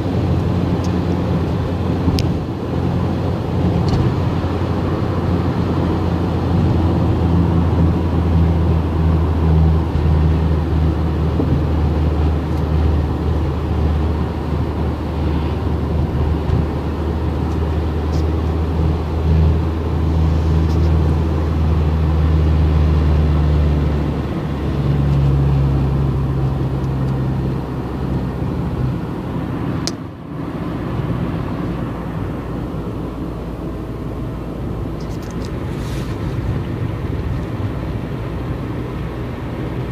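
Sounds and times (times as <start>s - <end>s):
car engine drone: 0.0s - 39.9s
road noise: 0.0s - 39.9s.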